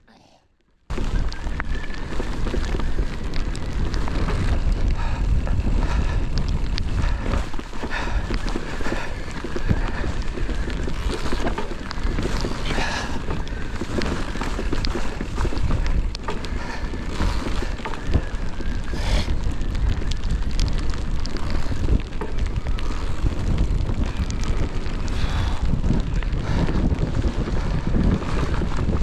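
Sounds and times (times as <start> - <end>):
bike clicks and rattles: 0.9 - 29.0
wind buffeting microphone: 0.9 - 29.0.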